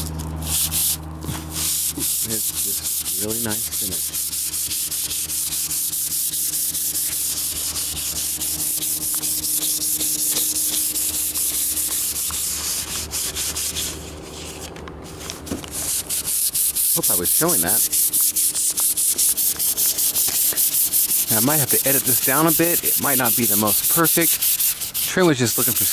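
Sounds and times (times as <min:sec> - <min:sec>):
sandpaper rubbing on car hood: 0:00.4 - 0:25.9.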